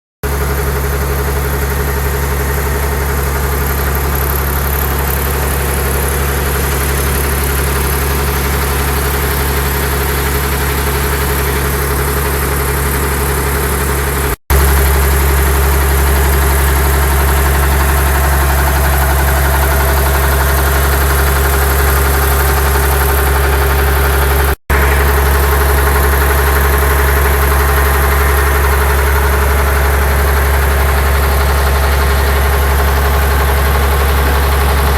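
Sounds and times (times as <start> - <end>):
diesel engine low drone: 0.2 - 34.9.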